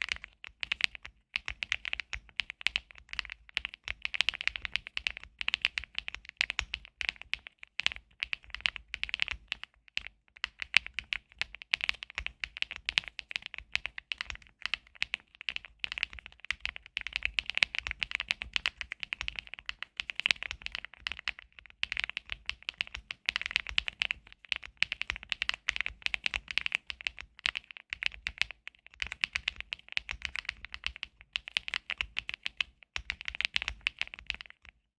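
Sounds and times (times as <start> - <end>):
mechanical keyboard typing: 0.0 - 34.8.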